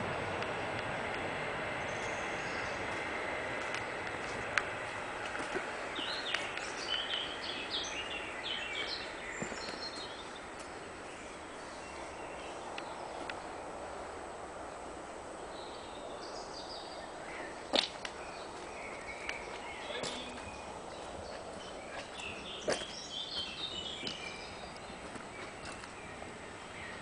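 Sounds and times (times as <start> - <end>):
songbird chirping: 0.0 - 14.2, 15.4 - 27.0
steady background hiss: 0.0 - 27.0.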